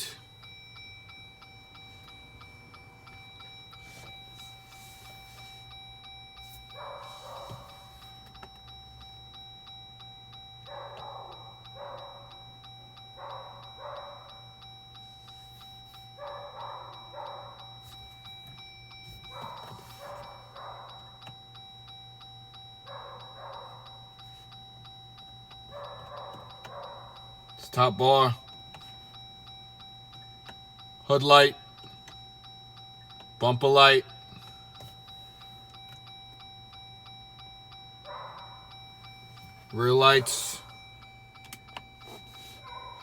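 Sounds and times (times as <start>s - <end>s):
regular ticking: 0.0s - 43.0s.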